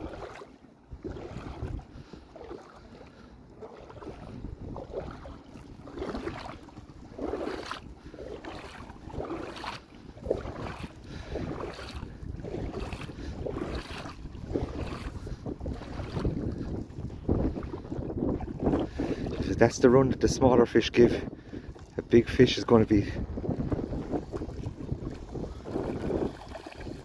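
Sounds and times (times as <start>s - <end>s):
wind buffeting microphone: 0.0s - 2.6s, 3.5s - 27.0s
small waves lapping: 0.0s - 27.0s.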